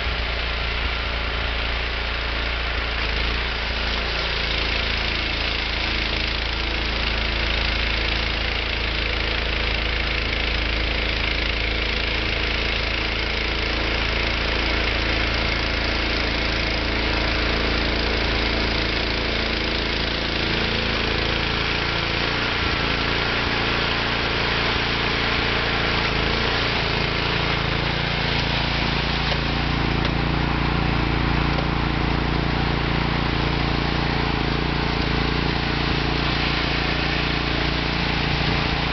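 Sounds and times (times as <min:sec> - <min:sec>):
snow thrower engine running: 0:00.0 - 0:38.9.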